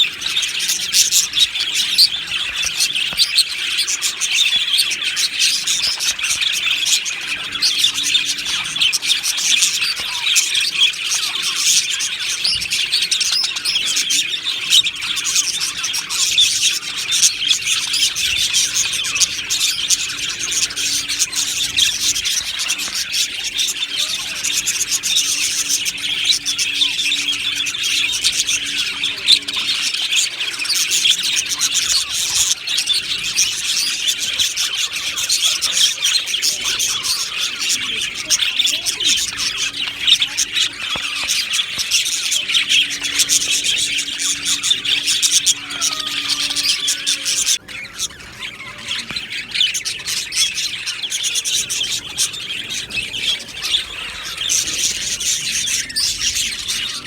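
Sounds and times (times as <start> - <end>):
budgerigars chirping and chattering: 0.0 - 57.0.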